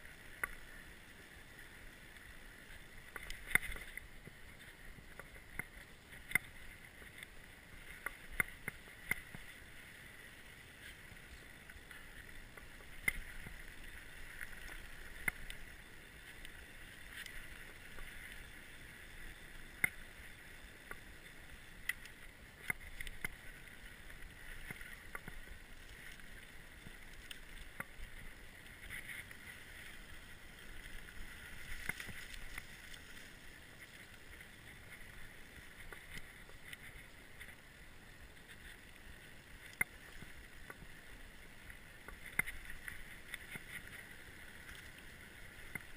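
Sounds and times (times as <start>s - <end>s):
bike rolling on dirt: 0.0s - 45.9s.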